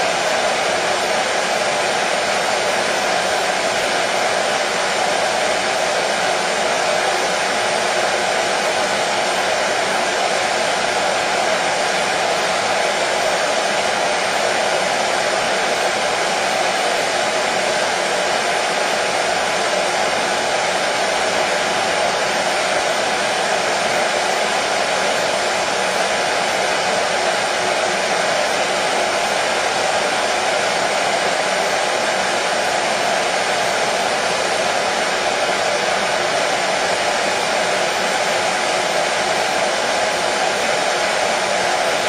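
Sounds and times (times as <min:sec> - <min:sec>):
hair dryer blowing: 0:00.0 - 0:42.0.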